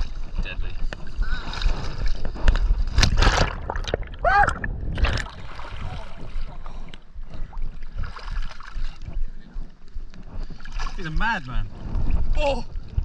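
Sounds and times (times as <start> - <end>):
seawater splashing and sloshing: 0.0 - 13.0
water gurgle: 0.0 - 13.0.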